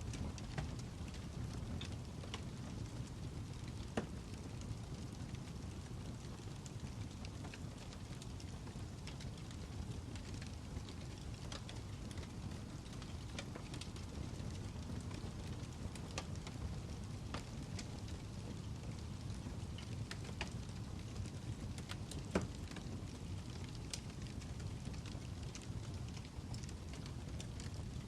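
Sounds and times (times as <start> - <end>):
logs crackling and popping: 0.0 - 28.0
low rumble of flames: 0.0 - 28.0.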